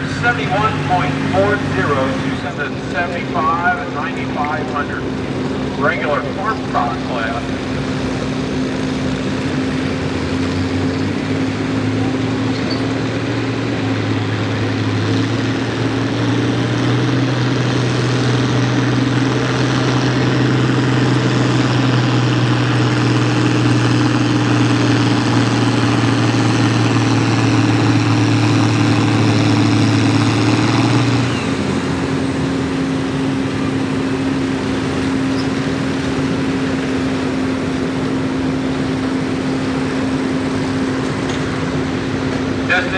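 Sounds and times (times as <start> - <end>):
tractor diesel engine at full throttle: 0.0 - 42.9.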